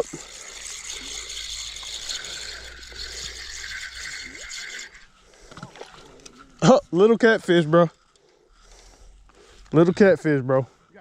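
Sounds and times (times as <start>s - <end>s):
fishing reel gears whirring: 0.0s - 9.9s.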